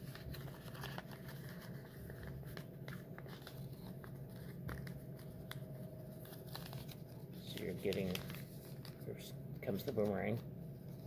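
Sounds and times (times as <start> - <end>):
low room hum: 0.0 - 11.0
paper rustling and crinkling: 0.0 - 11.0.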